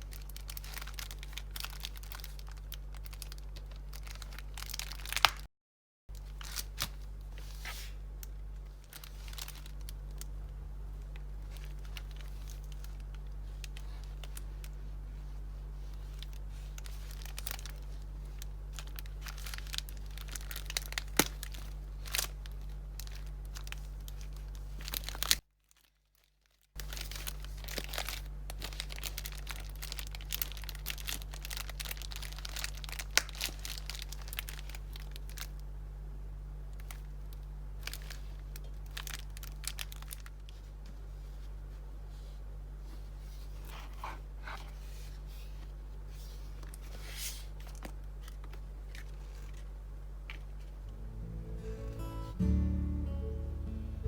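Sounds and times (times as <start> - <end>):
crinkling and rustling materials: 0.0 - 5.5, 6.1 - 35.8, 36.6 - 51.0
low electrical hum: 0.0 - 5.5, 6.1 - 54.0.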